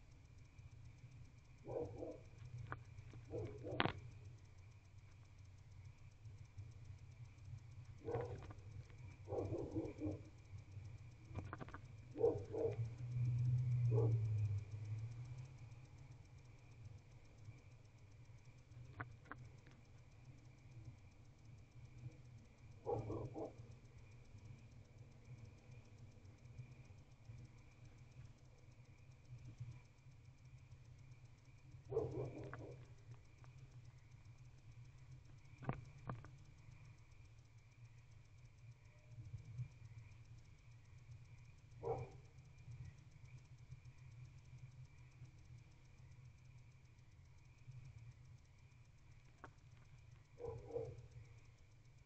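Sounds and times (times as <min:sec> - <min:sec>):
faint clicks: 0:00.0 - 0:51.6.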